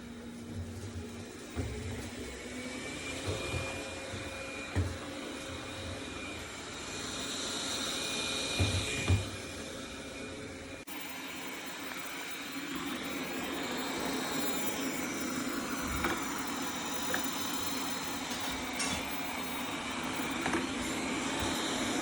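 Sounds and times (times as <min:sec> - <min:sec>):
robot vacuum whirring: 0:00.0 - 0:22.0.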